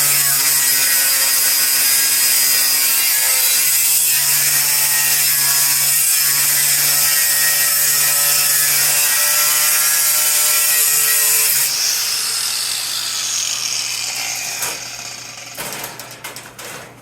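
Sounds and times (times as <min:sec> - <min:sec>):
angle grinder cutting steel: 0:00.0 - 0:15.7.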